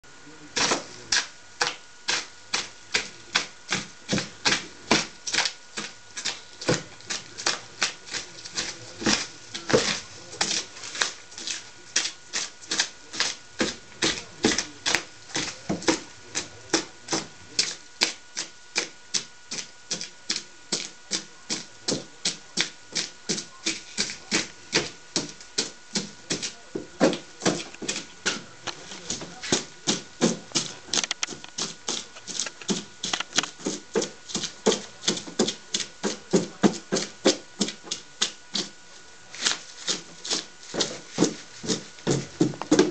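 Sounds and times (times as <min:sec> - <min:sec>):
hand tool scraping foam: 0:00.6 - 0:42.9.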